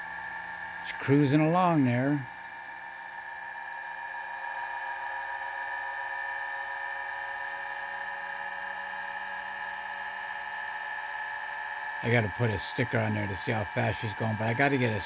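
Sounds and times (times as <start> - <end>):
pulse motor whining: 0.0 - 15.0.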